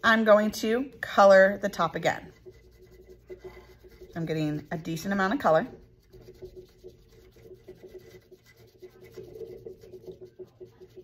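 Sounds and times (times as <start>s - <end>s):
marker scrubbing on clay: 0.1s - 11.0s.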